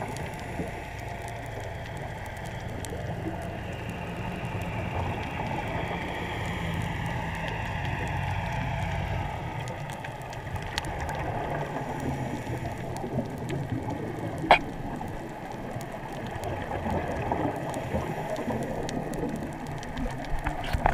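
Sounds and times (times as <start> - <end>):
crackle of small clicks: 0.0 - 20.9
muffled underwater noise: 0.0 - 20.9.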